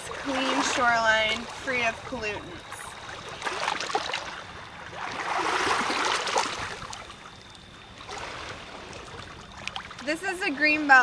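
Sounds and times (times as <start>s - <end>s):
water lapping against rocks: 0.0s - 10.9s.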